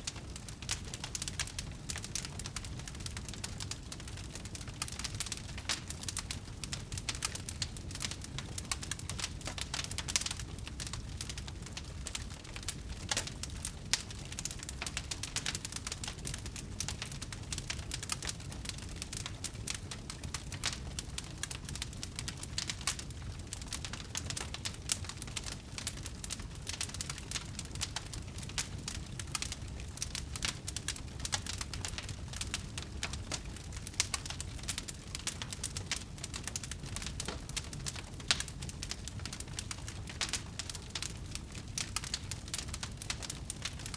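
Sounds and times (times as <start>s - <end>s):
fire crackling and popping: 0.0s - 43.9s
fire flames rumbling: 0.0s - 43.9s.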